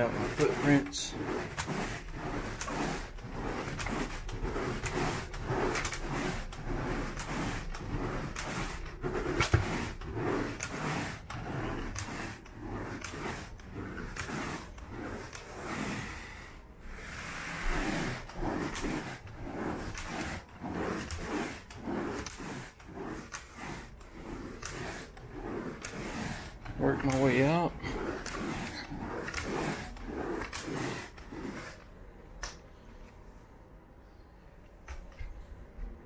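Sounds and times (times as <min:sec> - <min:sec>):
rake scraping carpet: 0:00.0 - 0:31.9.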